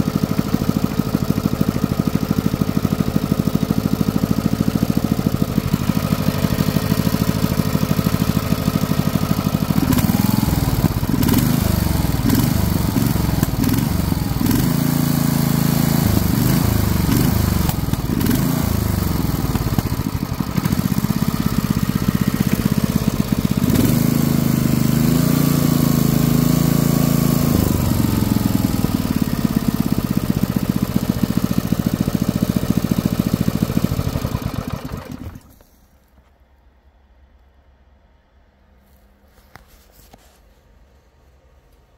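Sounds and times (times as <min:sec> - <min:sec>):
small engine revving: 0:00.0 - 0:35.7.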